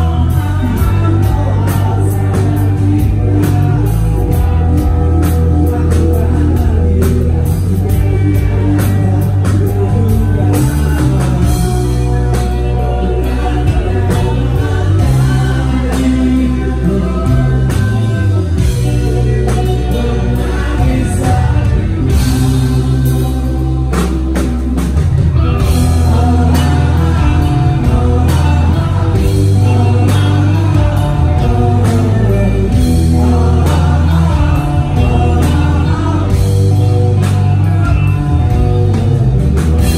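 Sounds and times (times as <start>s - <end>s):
person singing: 0.0s - 25.0s, 25.6s - 39.2s
drum kit: 0.0s - 39.9s
electric guitars: 0.0s - 39.9s.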